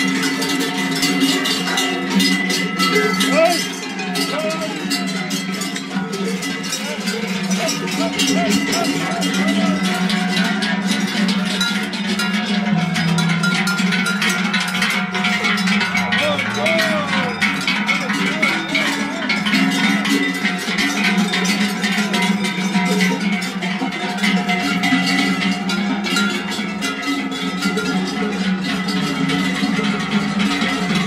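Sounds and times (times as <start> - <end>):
cowbells clanging: 0.0 - 31.0.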